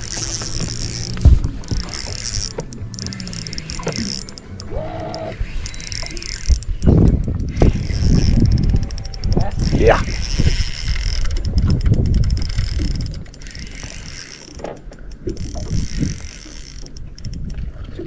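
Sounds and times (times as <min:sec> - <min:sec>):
rumbling handling noise: 0:00.0 - 0:17.6
fishing reel ratcheting whir: 0:00.0 - 0:17.7.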